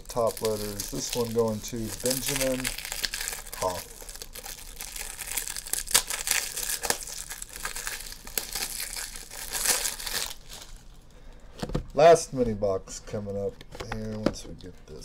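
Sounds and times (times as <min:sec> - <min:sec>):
plastic crinkling and rustling: 0:00.0 - 0:12.2.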